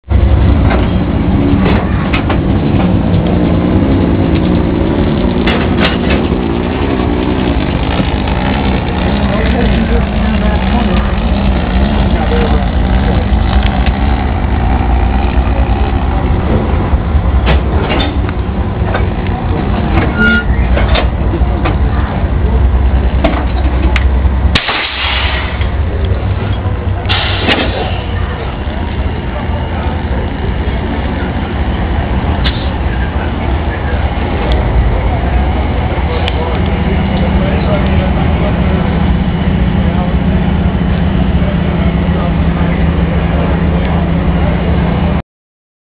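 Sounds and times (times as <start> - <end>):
diesel locomotive idling: 0.1 - 45.2.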